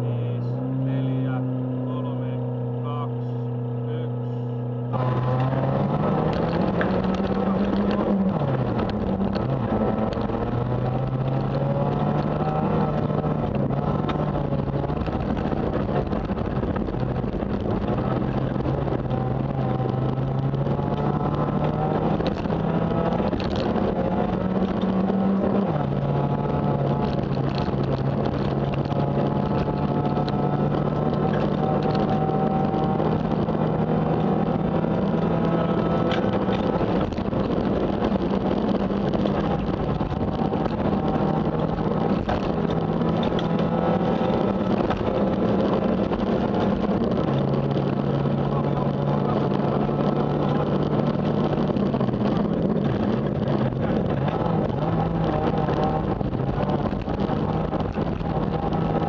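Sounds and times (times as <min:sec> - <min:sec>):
rally car engine revving: 0:00.0 - 0:59.0
wind noise: 0:04.9 - 0:59.0.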